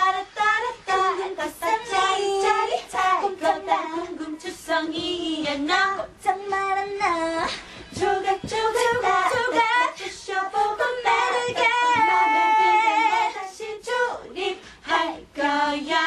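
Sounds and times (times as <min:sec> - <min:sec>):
group of women singing live: 0:00.0 - 0:16.0.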